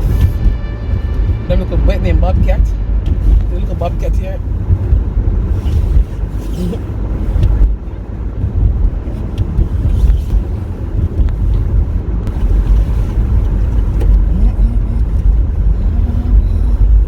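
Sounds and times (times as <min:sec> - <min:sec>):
car tyre and engine rumble: 0:00.0 - 0:17.0.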